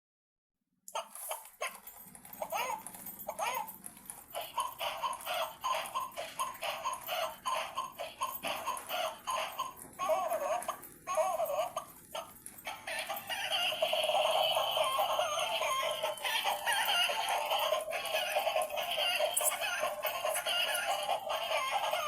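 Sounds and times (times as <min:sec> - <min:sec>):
toy clucking calls: 0:00.9 - 0:22.0.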